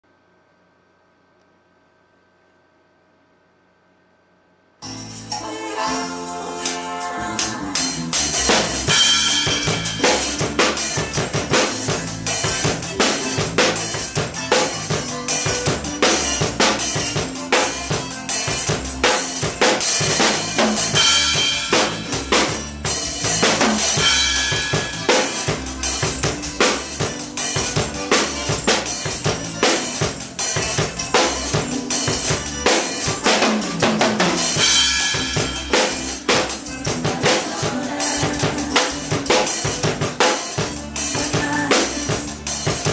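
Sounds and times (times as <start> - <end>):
drum kit playing: 6.0 - 42.9.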